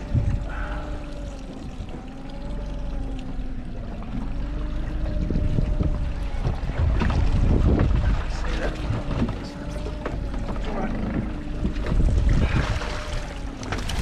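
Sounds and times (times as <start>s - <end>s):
outboard motor humming: 0.0s - 14.0s
water noise: 0.0s - 14.0s
wind rumble on microphone: 0.0s - 14.0s.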